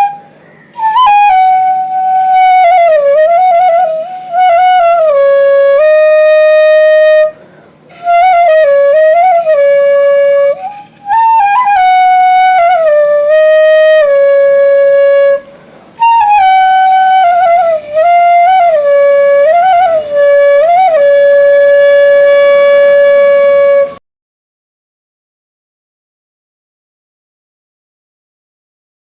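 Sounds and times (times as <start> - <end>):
solo flute melody: 0.0 - 24.0.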